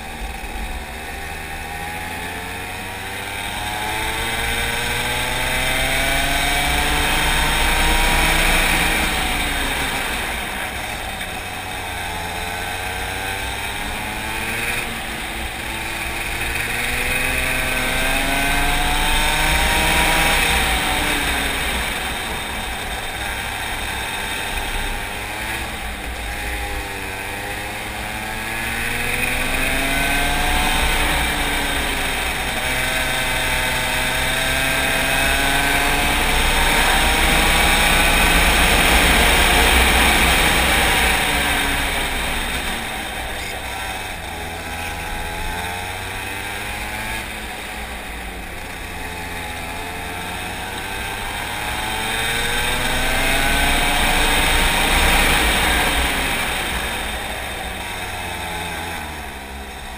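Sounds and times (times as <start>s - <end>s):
racing kart engine accelerating: 0.0s - 59.9s.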